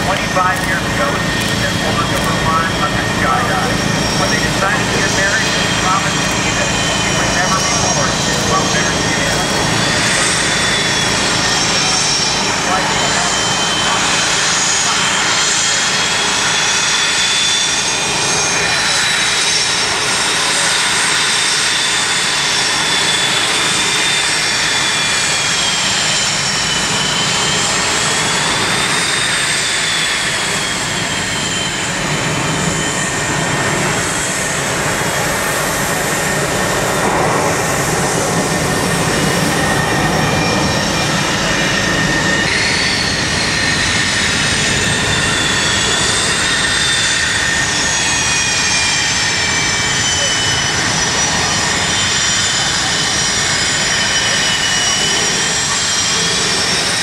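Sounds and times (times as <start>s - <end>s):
high turbine whine: 0.0s - 57.0s
jet engine roar: 0.0s - 57.0s.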